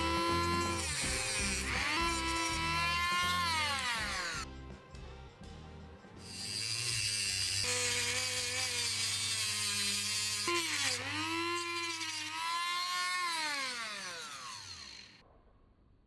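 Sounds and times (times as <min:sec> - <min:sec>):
rotary tool cutting copper tube: 0:00.0 - 0:04.4, 0:06.2 - 0:15.2.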